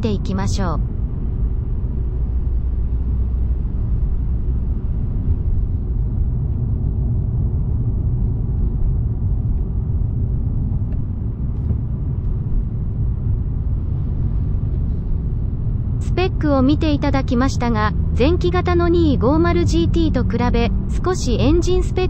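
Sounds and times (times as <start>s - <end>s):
car engine and road noise: 0.8s - 22.0s.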